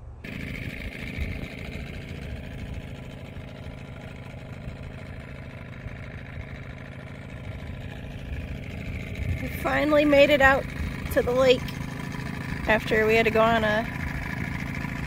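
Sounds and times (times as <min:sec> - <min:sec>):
outboard motor running: 0:00.2 - 0:15.0.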